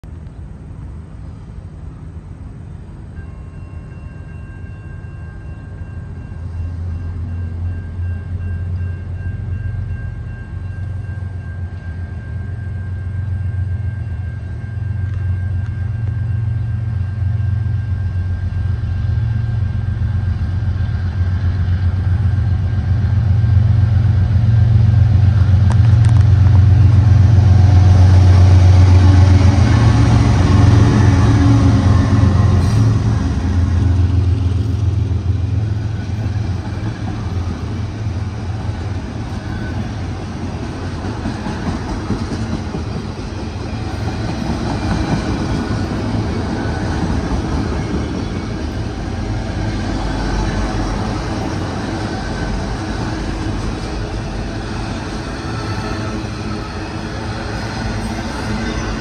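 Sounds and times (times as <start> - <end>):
diesel locomotive engine rumble: 0.0 - 59.0
train wheels on rails: 0.0 - 59.0.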